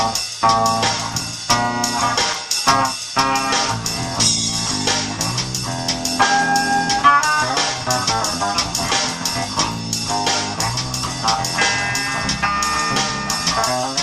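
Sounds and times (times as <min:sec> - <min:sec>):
bass guitar plucked notes: 0:00.0 - 0:14.0
drum beat: 0:00.0 - 0:14.0.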